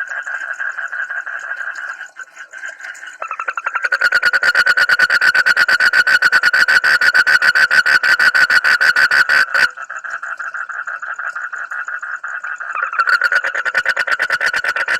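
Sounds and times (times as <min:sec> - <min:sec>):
frog calling in a pulsed trill: 0:00.0 - 0:14.9.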